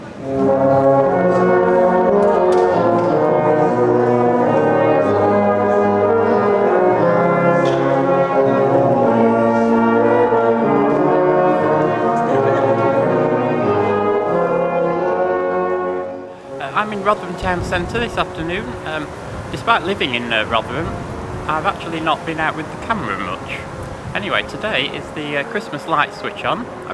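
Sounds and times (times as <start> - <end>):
brass band playing chords: 0.0 - 26.9.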